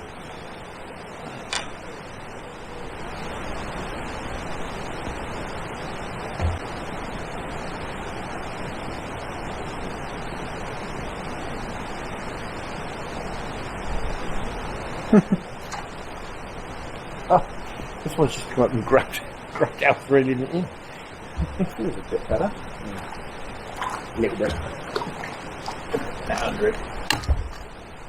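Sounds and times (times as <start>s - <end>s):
steady rushing outdoor noise: 0.0s - 28.0s.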